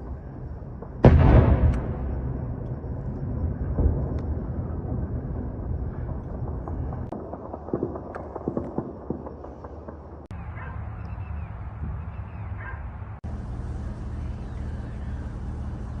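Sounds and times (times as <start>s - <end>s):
steady low hum: 0.0s - 7.8s, 10.0s - 16.0s.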